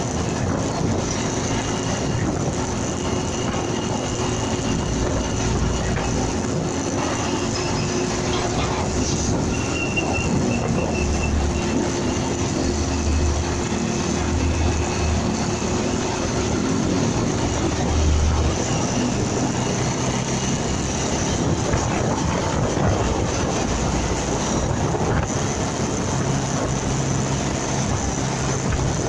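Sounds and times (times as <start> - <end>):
motorcycle engine: 0.0 - 29.0
wind on microphone: 0.0 - 29.0.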